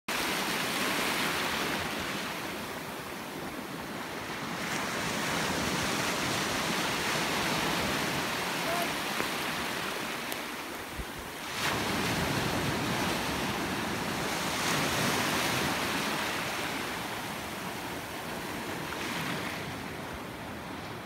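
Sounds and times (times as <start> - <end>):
sea surf washing in: 0.1 - 21.0.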